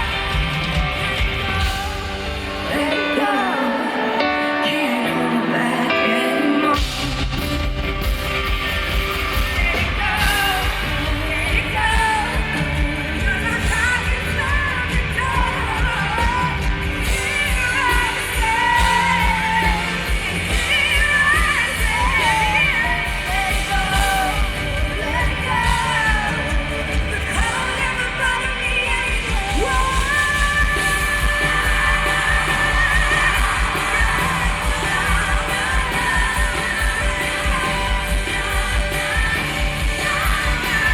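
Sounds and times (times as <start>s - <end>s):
person singing pop melody: 0.0s - 40.9s.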